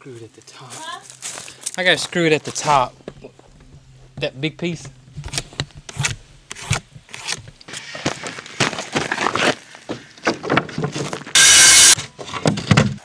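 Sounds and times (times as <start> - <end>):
plywood sheets scraping and knocking: 2.4 - 13.0.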